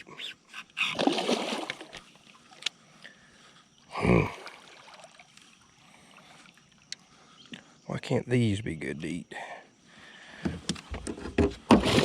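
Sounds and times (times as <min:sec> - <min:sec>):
river background: 0:00.0 - 0:12.0.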